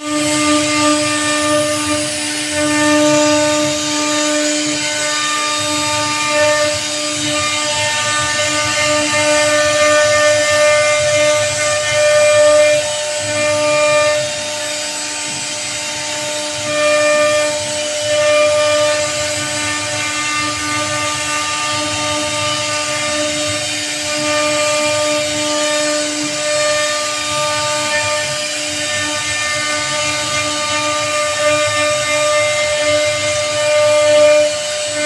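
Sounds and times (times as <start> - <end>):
bit rasping through wood: 0.0 - 35.0
router spindle whine: 0.0 - 35.0.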